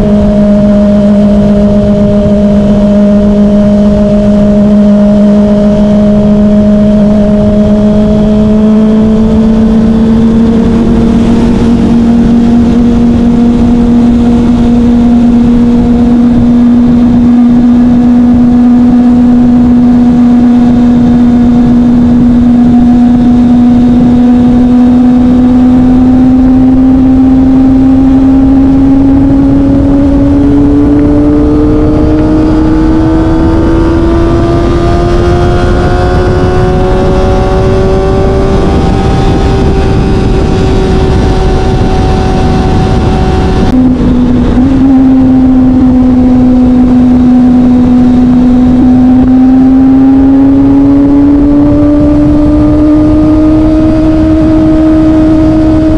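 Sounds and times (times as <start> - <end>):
motorcycle engine cruising: 0.0 - 55.9
wind rush: 0.0 - 55.9.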